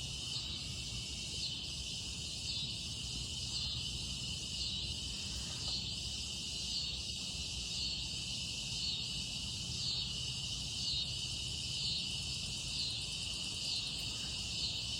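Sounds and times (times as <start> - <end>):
crickets trilling: 0.0 - 14.9
higher pulsing insect call: 0.0 - 14.9.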